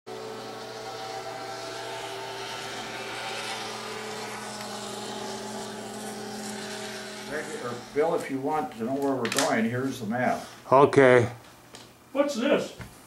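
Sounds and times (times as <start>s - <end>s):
steady mechanical hum with hiss: 0.1s - 13.0s.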